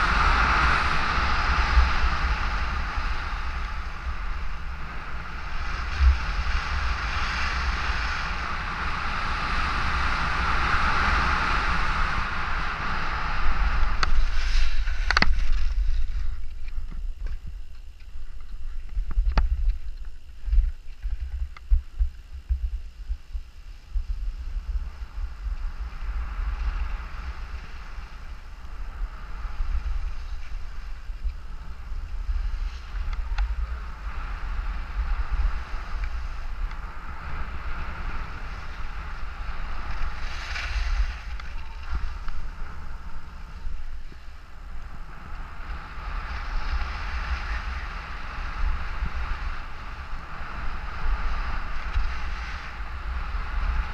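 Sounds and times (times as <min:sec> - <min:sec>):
snowboard sliding on snow: 0:00.0 - 0:17.6, 0:20.4 - 0:53.9
wind buffeting microphone: 0:00.0 - 0:53.9.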